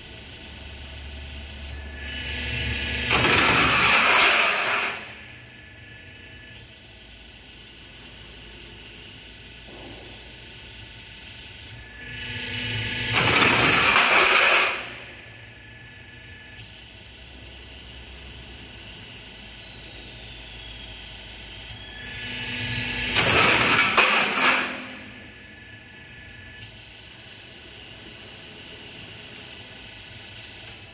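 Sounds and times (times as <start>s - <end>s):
loud machine noise: 0.0s - 30.9s
roll forming machine humming: 0.0s - 30.9s.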